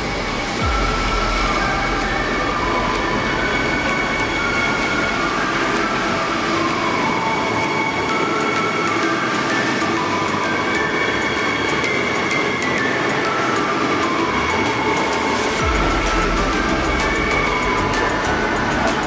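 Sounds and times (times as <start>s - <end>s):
electric train whine: 0.0s - 19.0s.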